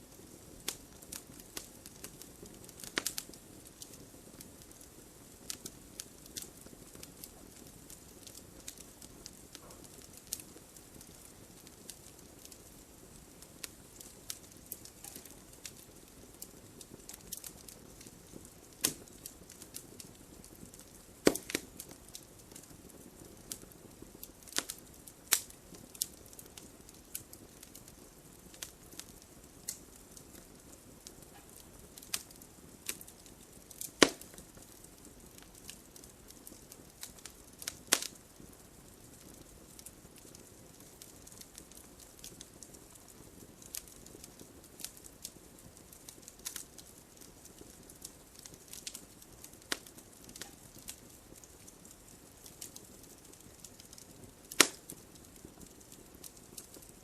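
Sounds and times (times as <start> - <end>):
logs crackling and popping: 0.0 - 57.0
soft fire hiss: 0.0 - 57.0.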